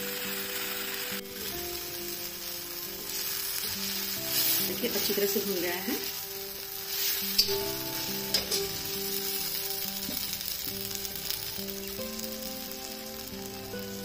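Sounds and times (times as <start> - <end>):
masala sizzling in oil: 0.0 - 14.0
soft background music: 0.0 - 14.0.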